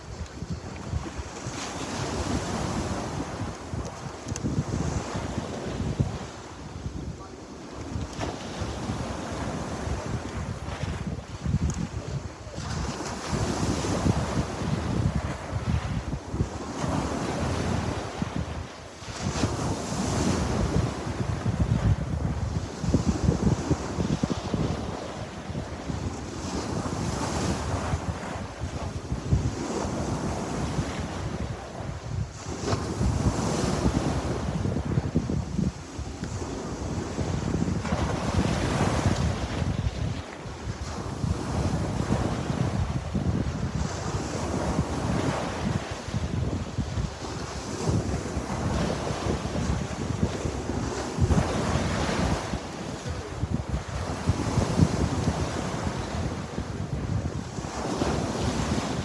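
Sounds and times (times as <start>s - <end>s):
sea waves washing on shore: 0.0s - 59.0s
wind buffeting microphone: 0.0s - 59.0s.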